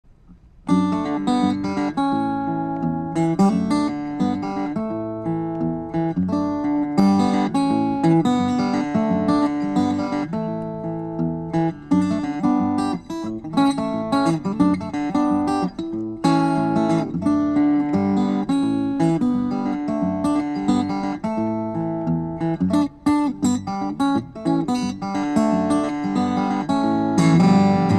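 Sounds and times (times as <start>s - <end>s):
acoustic guitar playing: 0.0s - 27.9s.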